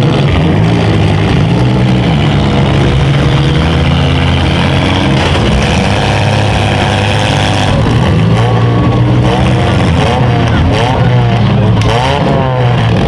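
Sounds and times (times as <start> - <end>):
small car engines revving: 0.0 - 13.0.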